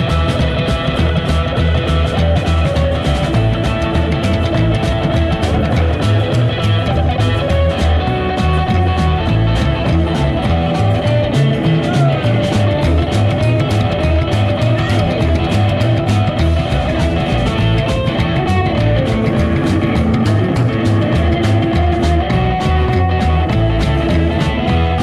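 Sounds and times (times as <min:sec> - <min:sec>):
drum kit steady beat: 0:00.0 - 0:25.0
live rock and roll band: 0:00.0 - 0:25.0.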